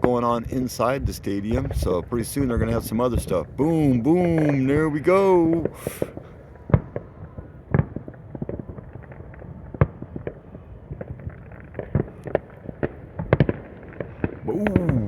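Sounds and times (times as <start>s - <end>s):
fireworks booming and popping: 0.0s - 15.0s.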